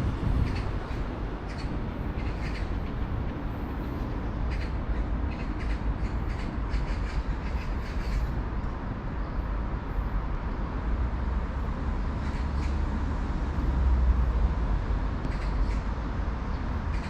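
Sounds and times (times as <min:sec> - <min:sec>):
train rumbling by: 0:00.0 - 0:17.0.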